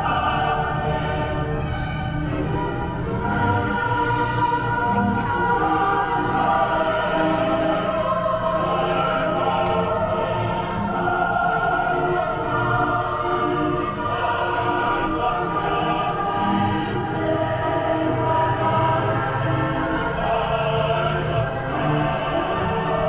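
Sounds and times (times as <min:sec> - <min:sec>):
choir singing long held notes: 0:00.0 - 0:23.0.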